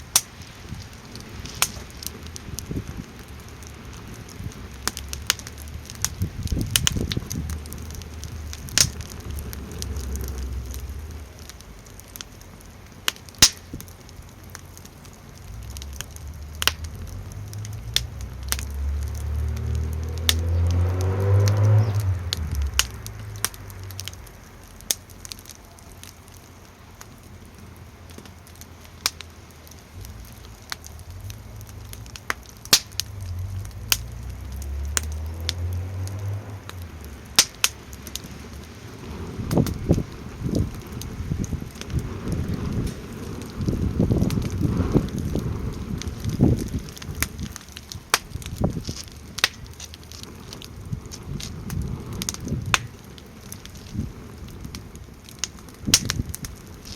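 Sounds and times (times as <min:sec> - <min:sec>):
low rumble of wind gusts: 0:00.0 - 0:56.9
wood fire crackling and popping: 0:00.0 - 0:56.9.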